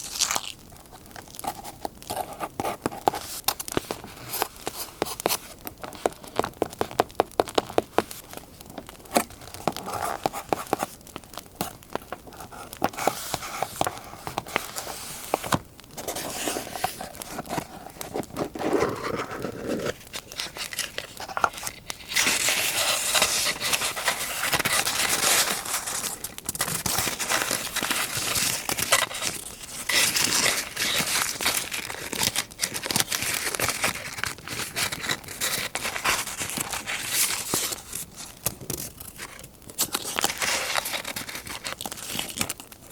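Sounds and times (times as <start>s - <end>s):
paper crinkling and tearing: 0.0s - 42.9s.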